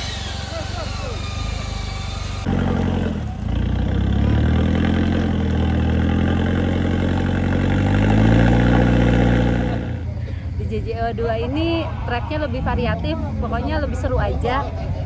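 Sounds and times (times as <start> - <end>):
truck engine under load: 0.0 - 13.4.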